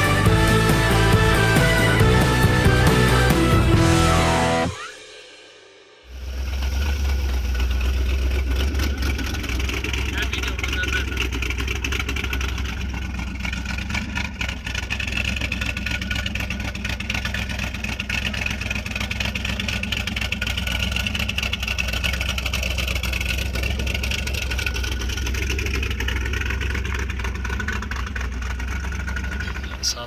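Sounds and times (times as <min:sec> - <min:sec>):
vehicle engine running: 0:00.0 - 0:04.8, 0:06.0 - 0:30.0.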